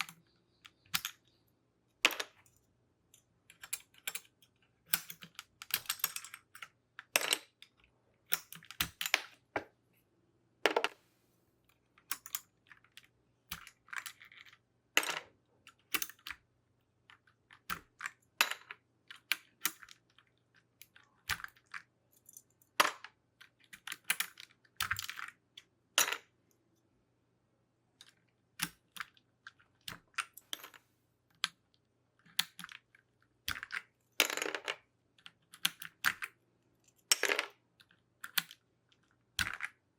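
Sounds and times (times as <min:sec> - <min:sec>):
keycaps clicking and clattering: 0:00.0 - 0:01.3, 0:03.5 - 0:09.4, 0:11.7 - 0:26.2, 0:28.0 - 0:39.8.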